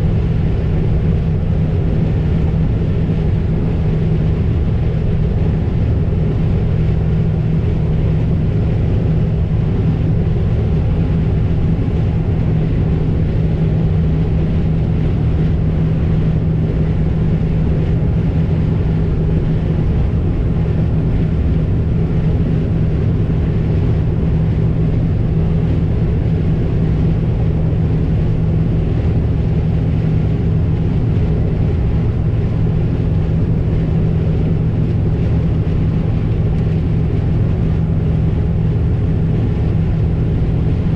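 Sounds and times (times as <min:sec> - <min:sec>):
farm vehicle engine drone: 0:00.0 - 0:40.9.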